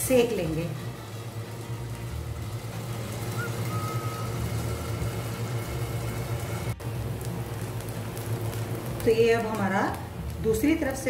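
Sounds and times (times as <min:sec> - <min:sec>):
muffled sizzle in a lidded pan: 0:00.0 - 0:11.0.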